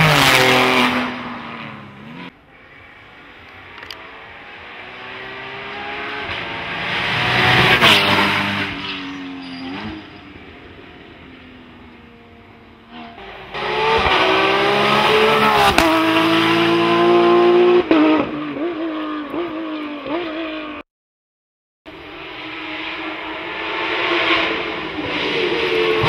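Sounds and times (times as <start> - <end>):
race car engine at full throttle: 0.0 - 20.8, 21.9 - 26.0.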